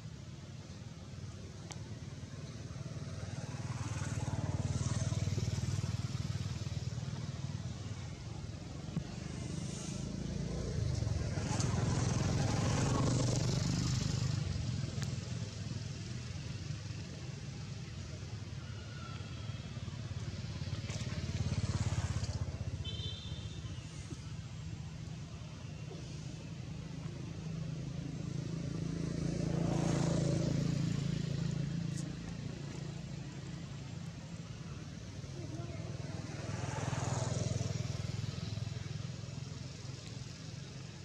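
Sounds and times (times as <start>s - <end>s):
vehicle engine rumble: 0.0s - 41.0s.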